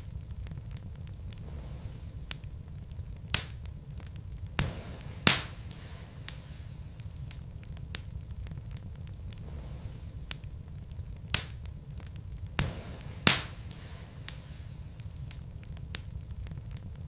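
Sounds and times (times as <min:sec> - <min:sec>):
logs crackling in a fireplace: 0:00.0 - 0:17.0
loud fire pops: 0:00.0 - 0:17.0
low fire rumble: 0:00.0 - 0:17.0.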